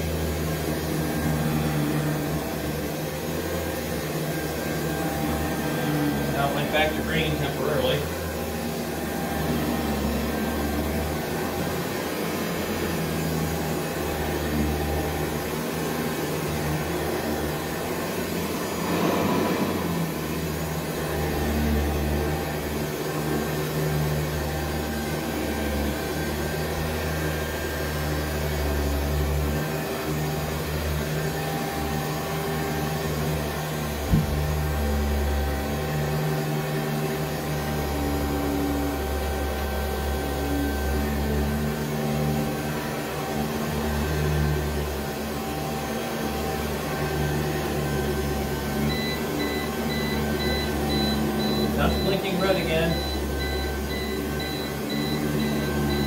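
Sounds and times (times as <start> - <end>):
vacuum cleaner running on carpet: 0.0 - 56.0.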